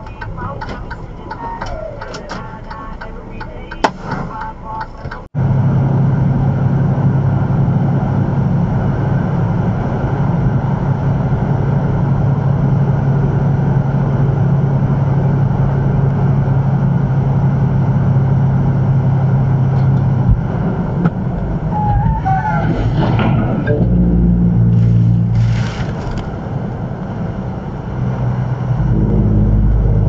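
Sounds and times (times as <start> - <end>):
low hum: 0.0 - 30.0
truck engine drone: 0.0 - 30.0.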